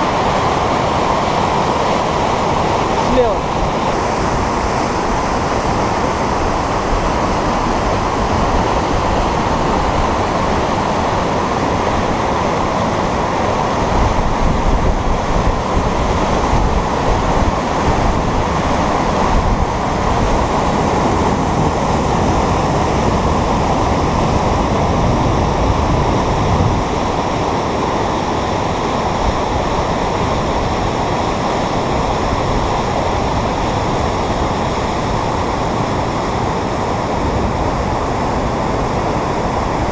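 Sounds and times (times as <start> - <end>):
river rapid rushing over rocks: 0.0 - 39.9.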